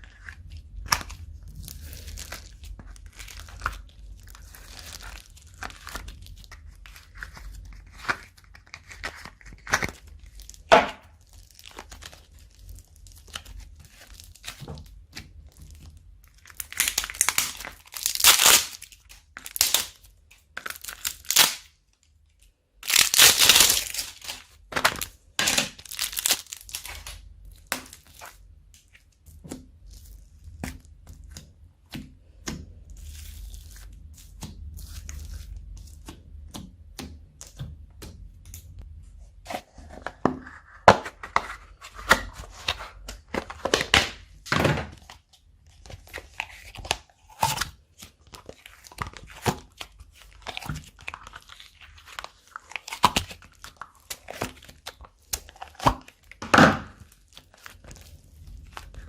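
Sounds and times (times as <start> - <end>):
slime squished by hands: 0.0 - 21.7, 22.8 - 38.8, 42.0 - 59.0.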